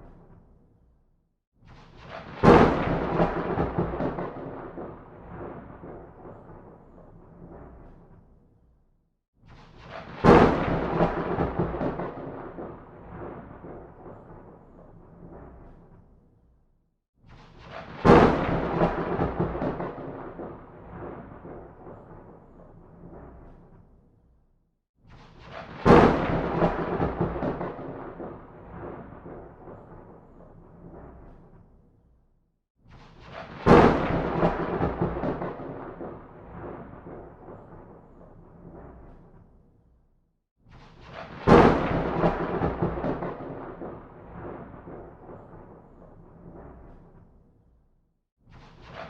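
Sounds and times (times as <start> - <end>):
thunderclap: 1.6 - 8.3, 9.4 - 16.1, 17.3 - 23.9, 25.1 - 31.8, 32.9 - 39.5, 40.7 - 47.3, 48.5 - 49.0.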